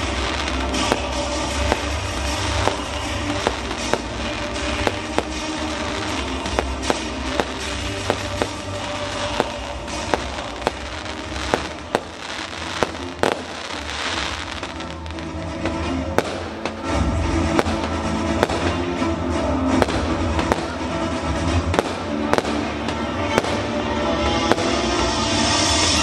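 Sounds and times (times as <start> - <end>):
firework shells bursting: 0.0 - 15.1, 16.1 - 25.7
music with low bass: 0.0 - 26.0.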